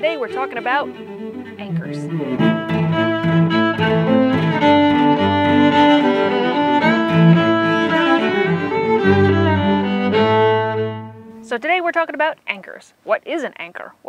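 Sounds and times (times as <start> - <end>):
instrumental theme music: 0.0 - 11.6.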